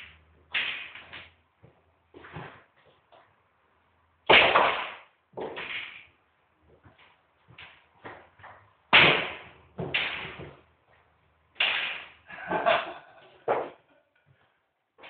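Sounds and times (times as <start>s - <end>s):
pool balls clacking: 0.0s - 3.4s, 4.0s - 14.1s.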